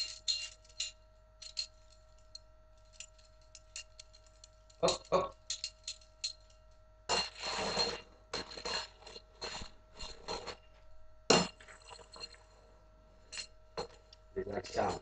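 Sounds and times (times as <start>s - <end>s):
small clinking: 0.0s - 15.0s.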